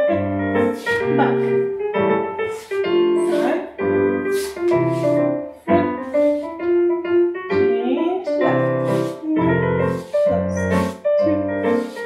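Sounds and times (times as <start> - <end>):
piano accompaniment: 0.0 - 12.0.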